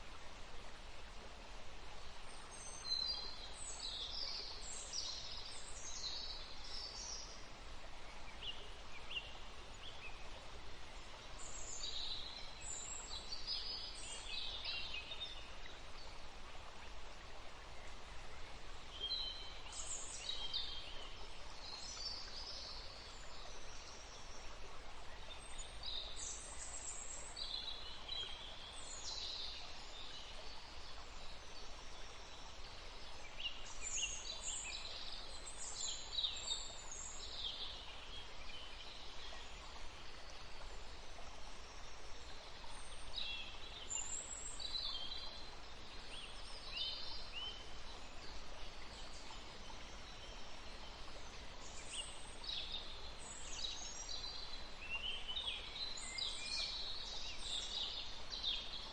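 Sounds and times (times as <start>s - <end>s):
steady background hiss: 0.0s - 58.9s.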